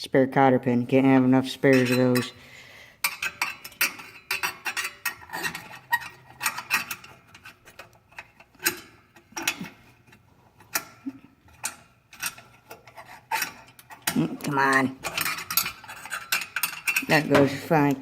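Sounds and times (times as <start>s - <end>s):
metal tools clinking in toolbox: 1.5s - 18.0s.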